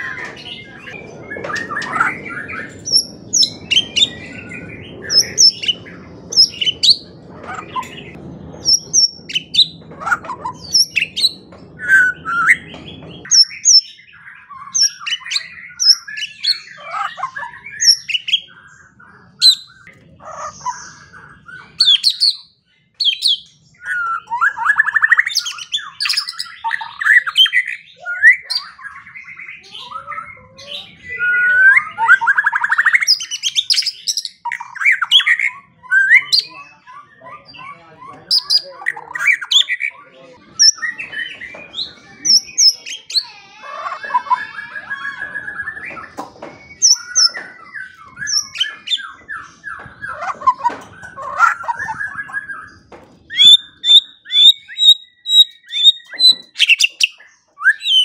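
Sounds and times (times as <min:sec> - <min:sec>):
bird singing whistles and chirps: 0:00.0 - 0:19.9, 0:20.5 - 0:43.3, 0:43.9 - 0:58.0.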